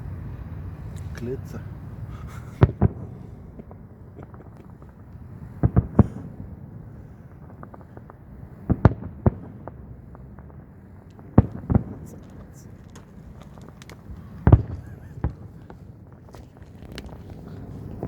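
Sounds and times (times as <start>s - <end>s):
fireworks bursting: 0.6s - 18.0s.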